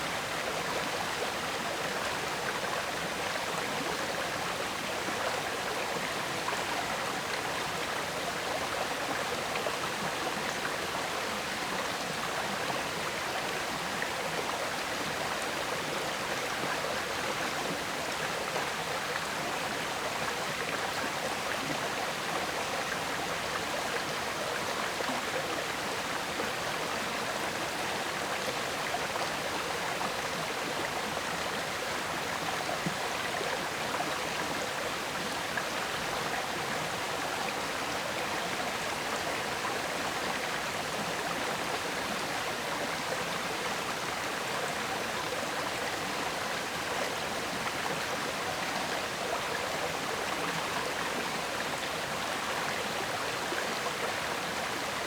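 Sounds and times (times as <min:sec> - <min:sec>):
river water flowing and gurgling: 0:00.0 - 0:55.0.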